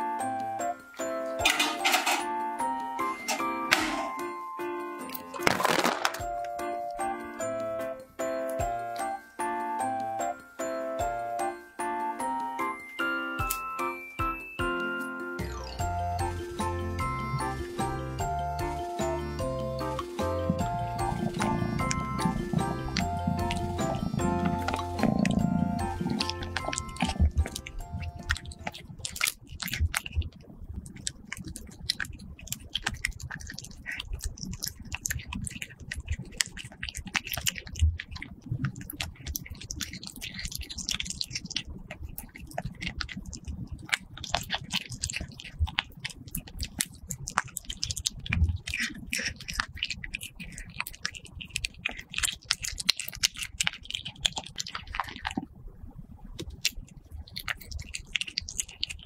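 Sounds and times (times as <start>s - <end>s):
kitten chewing and biting meat: 0.0s - 2.1s, 4.8s - 10.4s, 12.2s - 55.6s, 56.2s - 59.0s.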